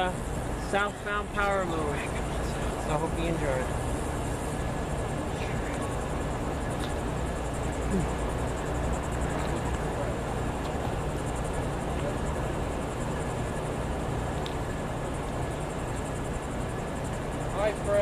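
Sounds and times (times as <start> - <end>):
continuous low rumble: 0.0 - 18.0
high-pitched insect chorus: 0.0 - 18.0.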